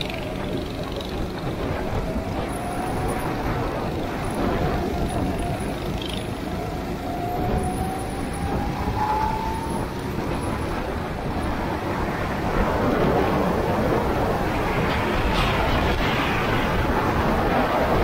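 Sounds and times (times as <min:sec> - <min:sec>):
go-kart engine accelerating: 0:00.0 - 0:18.0
loud continuous rushing noise: 0:00.0 - 0:18.0.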